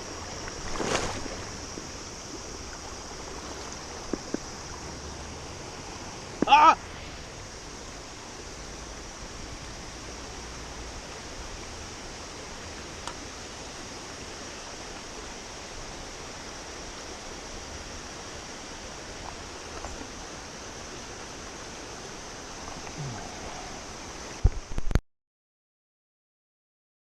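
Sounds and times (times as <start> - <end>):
river water rushing: 0.0 - 24.7.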